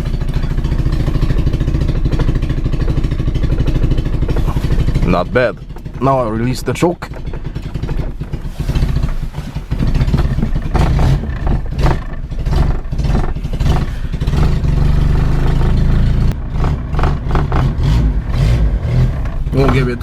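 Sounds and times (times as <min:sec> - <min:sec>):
car engine running unevenly: 0:00.0 - 0:20.0.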